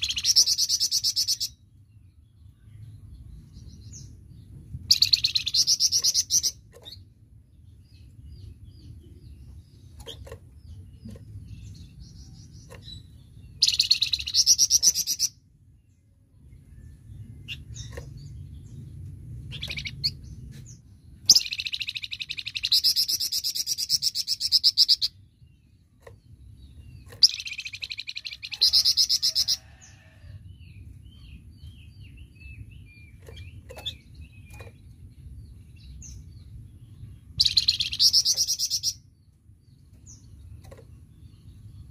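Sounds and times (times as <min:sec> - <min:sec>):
songbird singing rapid trills: 0:00.0 - 0:41.9
low steady rumble: 0:01.4 - 0:22.6, 0:23.6 - 0:29.2, 0:29.8 - 0:41.9.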